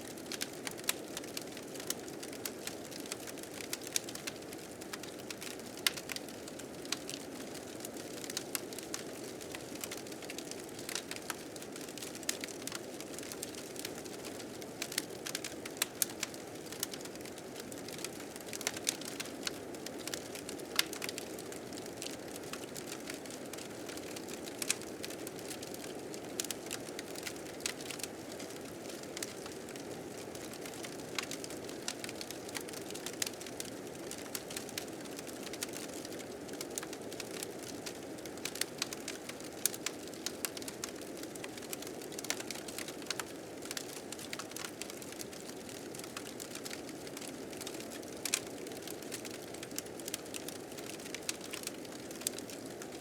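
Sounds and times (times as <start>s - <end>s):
wood fire crackling and popping: 0.1s - 53.0s.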